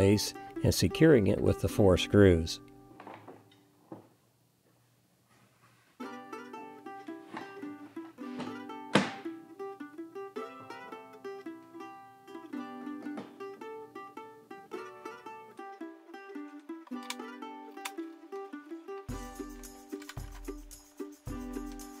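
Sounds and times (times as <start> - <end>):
plucked string music: 0.0 - 3.6, 6.0 - 22.0.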